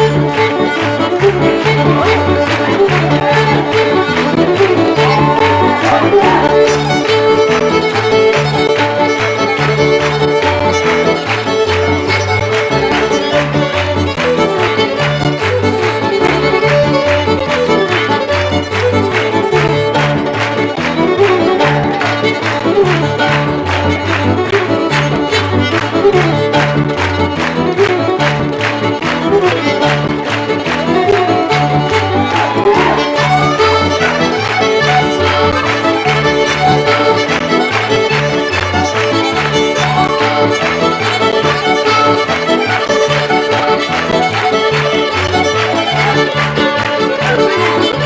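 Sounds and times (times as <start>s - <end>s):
fiddle playing a reel: 0.0s - 48.0s
moving bass line: 0.0s - 48.0s
piano accordion: 0.0s - 48.0s.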